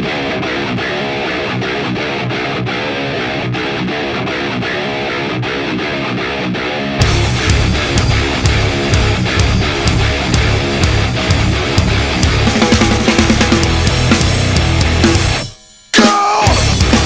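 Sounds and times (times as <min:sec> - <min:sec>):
electric guitar riff: 0:00.0 - 0:17.0
heavy metal band playing: 0:00.0 - 0:17.0.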